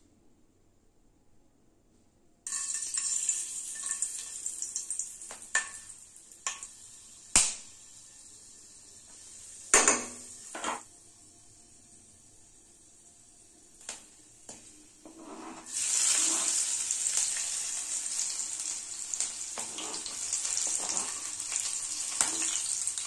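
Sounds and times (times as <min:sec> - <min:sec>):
spices sizzling in hot oil: 0:02.5 - 0:23.0.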